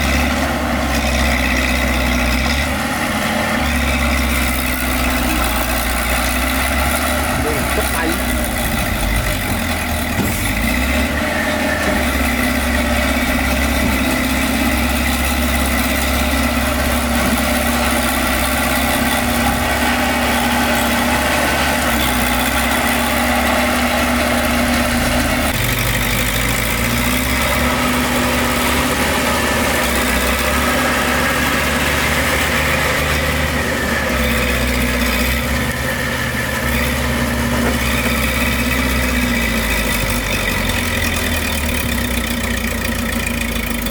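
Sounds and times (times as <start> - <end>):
construction machine diesel engine: 0.0 - 43.9.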